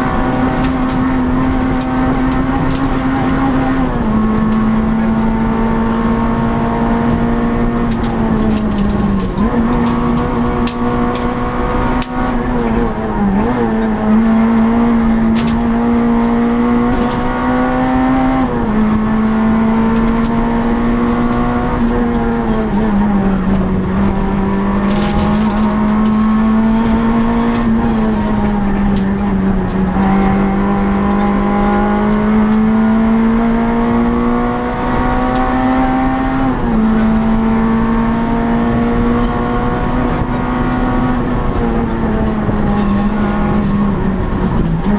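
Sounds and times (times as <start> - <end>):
rally car engine at high revs: 0.0 - 44.9.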